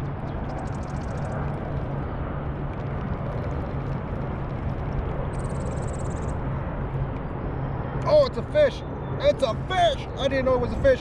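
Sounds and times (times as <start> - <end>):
steady low drone: 0.0 - 11.0.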